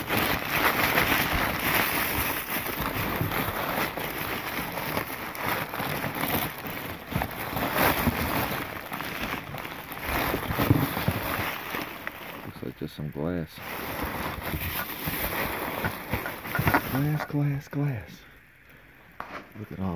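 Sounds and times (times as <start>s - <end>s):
crumpled newspaper rustling: 0.0s - 17.5s.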